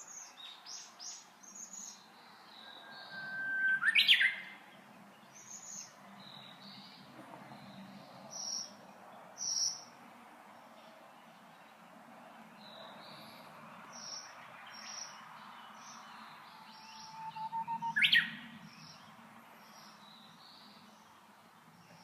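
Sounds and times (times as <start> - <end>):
bush warbler singing: 0.0 - 22.0
small birds chirping: 0.0 - 22.0.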